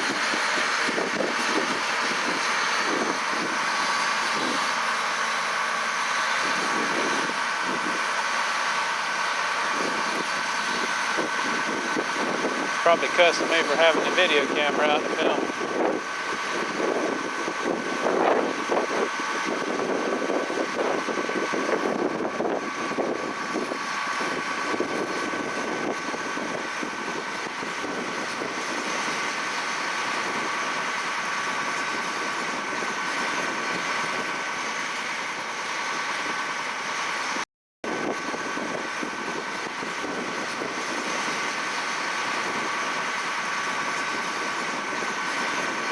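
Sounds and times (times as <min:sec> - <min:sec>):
harvesting machinery engine: 0:00.0 - 0:45.9.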